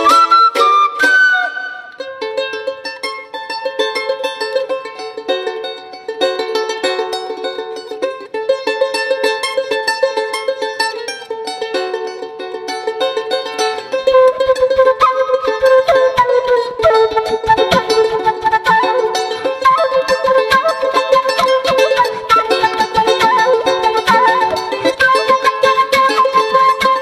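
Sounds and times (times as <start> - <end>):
charango plucked and strummed: 0.0 - 27.0.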